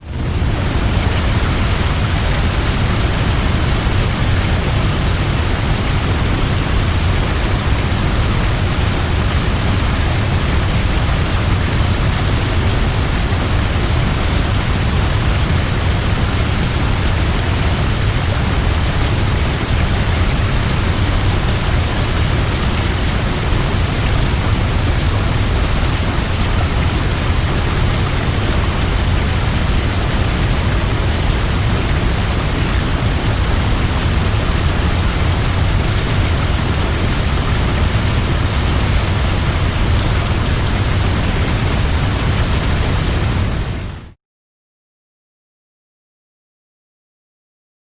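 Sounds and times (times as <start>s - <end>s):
large waterfall roaring: 0.0s - 44.2s.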